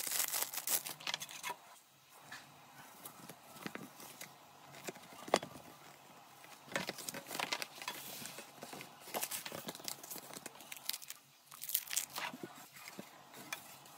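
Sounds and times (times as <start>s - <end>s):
card rustling and crinkling: 0.0s - 1.4s, 2.9s - 13.8s.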